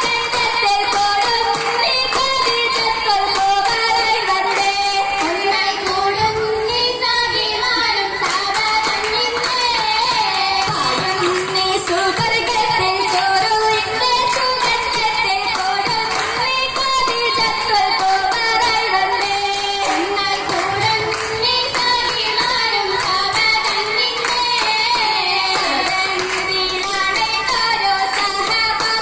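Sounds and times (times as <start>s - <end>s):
girls singing together: 0.0s - 29.0s
rhythmic hand clapping: 0.0s - 29.0s.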